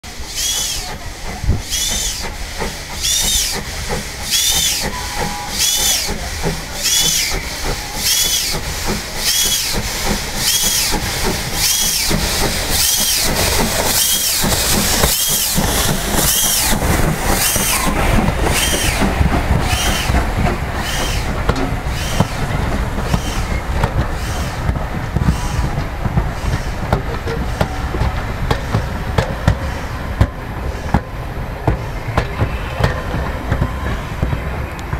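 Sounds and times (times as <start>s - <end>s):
carriages rumbling on rails: 0.0s - 34.9s
steam locomotive chuffing: 0.0s - 34.9s
wheels ticking on rails: 0.4s - 34.9s.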